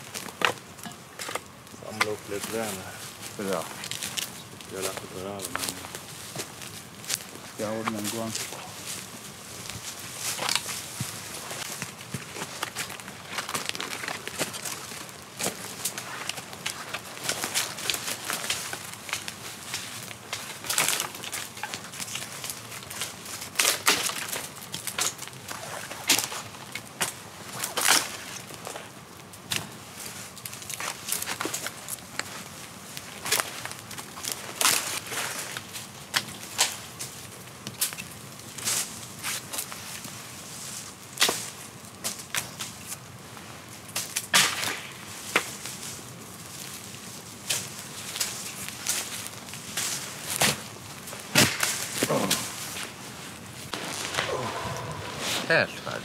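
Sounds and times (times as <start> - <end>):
dry brushwood crunching and snapping: 0.1 - 40.2, 43.8 - 55.0.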